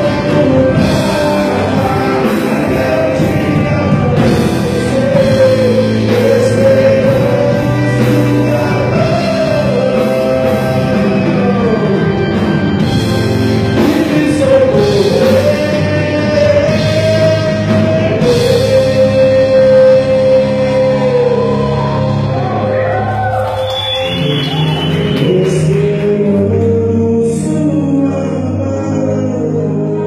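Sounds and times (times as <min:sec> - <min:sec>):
man singing: 0:00.0 - 0:22.7, 0:24.5 - 0:30.0
drums: 0:00.0 - 0:30.0
electric guitar: 0:00.0 - 0:30.0.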